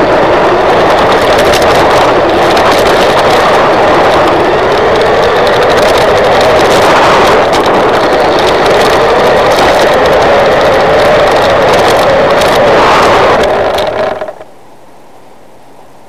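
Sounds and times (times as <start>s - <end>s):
electric motor and gearbox whining: 0.0s - 14.4s
tyres rattling on rough asphalt: 0.0s - 14.5s.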